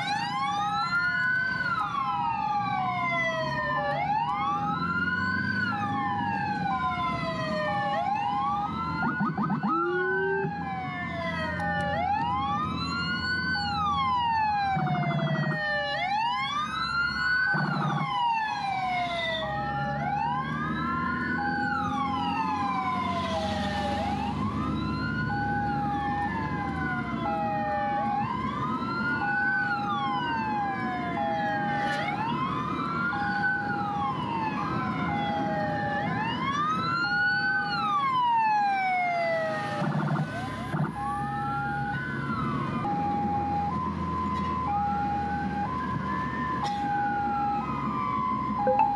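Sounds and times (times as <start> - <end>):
hi-lo two-tone siren: 0.0 - 48.9
low traffic rumble: 0.0 - 48.9
wailing siren: 0.0 - 48.9.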